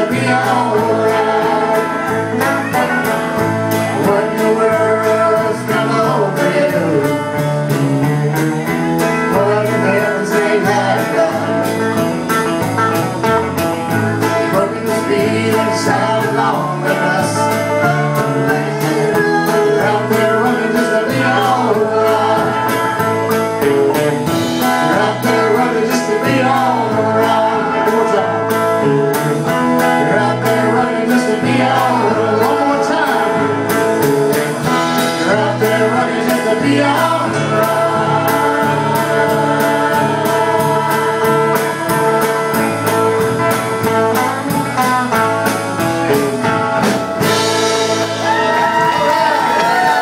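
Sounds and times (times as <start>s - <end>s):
guitars: 0.0s - 50.0s
live band playing country-folk: 0.0s - 50.0s
steady drum beat: 0.0s - 50.0s.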